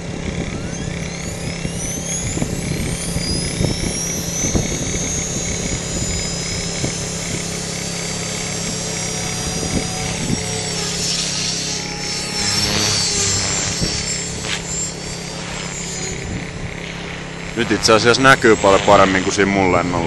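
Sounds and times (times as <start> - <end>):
rc helicopter motor whine: 0.0 - 20.0
rotor hum: 0.0 - 20.0.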